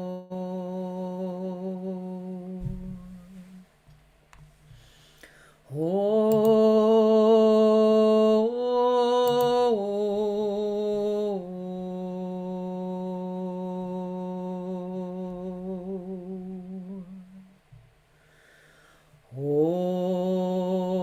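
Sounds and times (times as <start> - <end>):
woman singing a long low note: 0.0 - 3.8, 5.7 - 17.6, 19.3 - 21.0
low sung vocal tone: 0.0 - 3.9, 5.2 - 17.8, 19.2 - 21.0.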